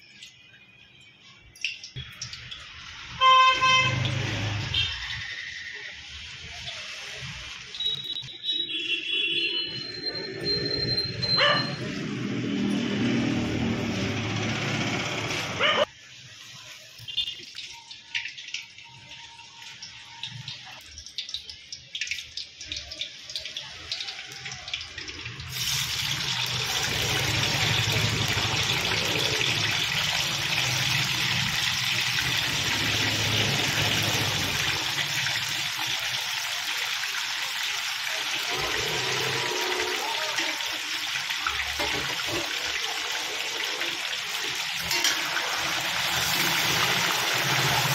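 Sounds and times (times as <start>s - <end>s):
loud sizzle of deep-frying: 0.0s - 47.9s.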